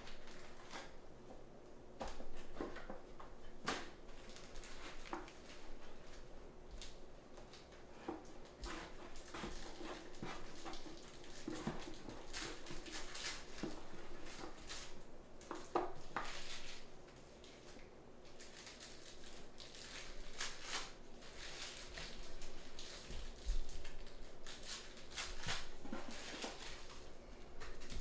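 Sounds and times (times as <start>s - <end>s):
card packs rustling and crinkling: 0.0s - 1.0s, 2.0s - 28.0s.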